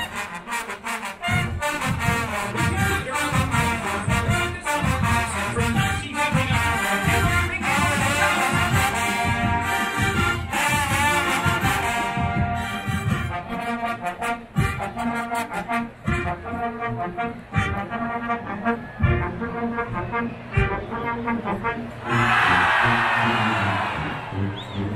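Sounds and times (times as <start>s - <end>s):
brass band music: 0.0s - 24.9s.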